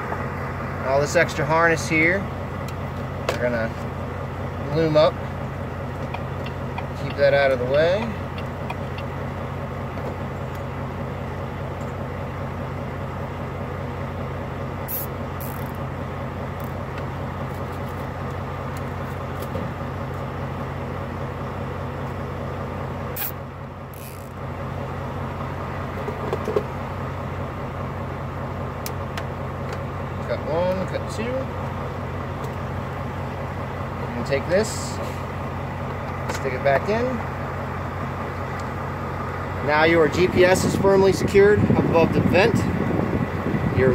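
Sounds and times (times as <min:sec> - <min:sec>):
truck engine idling: 0:00.0 - 0:43.9.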